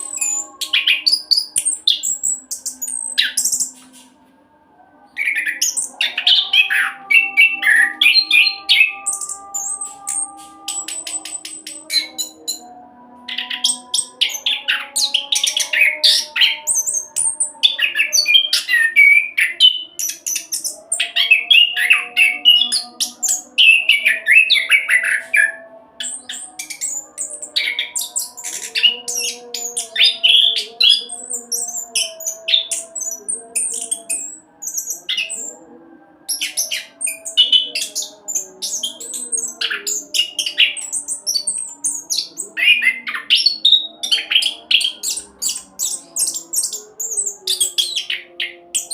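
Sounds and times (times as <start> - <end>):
thrush singing rolling song: 0.0 - 4.3, 5.0 - 48.9
faint background music: 0.0 - 48.9.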